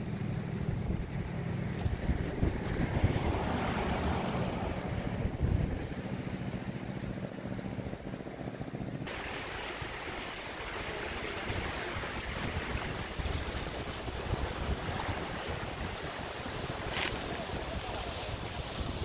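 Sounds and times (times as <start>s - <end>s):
wind gusting on microphone: 0.0s - 6.9s, 9.1s - 19.0s
muddy river rushing: 0.0s - 19.0s.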